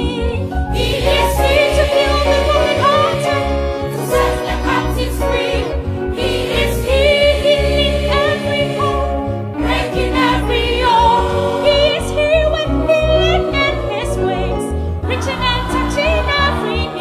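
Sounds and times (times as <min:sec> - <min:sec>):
gospel choir singing: 0:00.0 - 0:17.0
steady bass line: 0:00.0 - 0:17.0.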